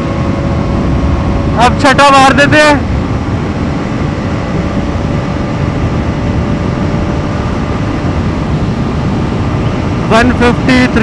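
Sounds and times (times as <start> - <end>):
heavy wind rush: 0.0 - 11.0
motorcycle engine drone: 0.0 - 11.0.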